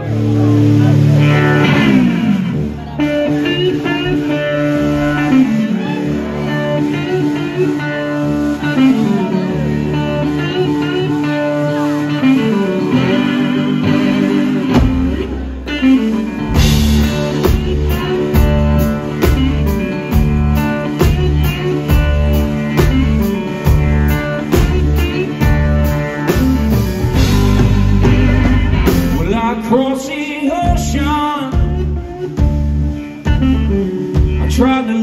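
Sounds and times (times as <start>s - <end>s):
drums playing steady beat: 0.0s - 29.8s, 30.4s - 35.0s
bass notes: 0.0s - 35.0s
electric guitar solo: 0.0s - 35.0s.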